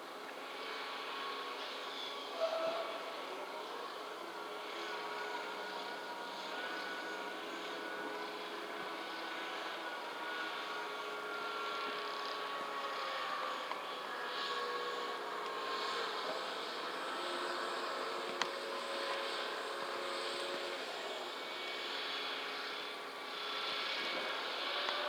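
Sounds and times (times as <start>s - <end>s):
faint thin whining tones: 0.0s - 25.0s
machinery drone: 0.1s - 25.0s.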